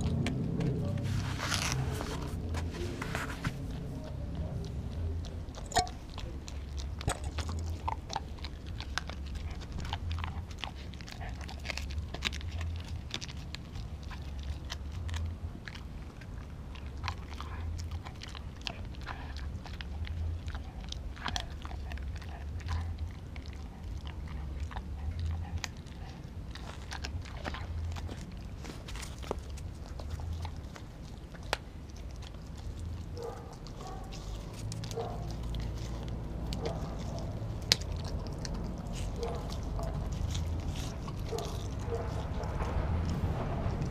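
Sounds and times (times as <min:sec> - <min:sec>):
dog chewing raw meat: 0:00.0 - 0:43.9.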